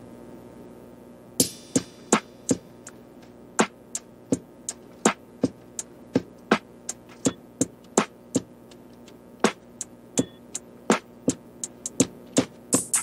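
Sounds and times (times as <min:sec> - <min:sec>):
programmed drum beat: 0:01.4 - 0:13.0.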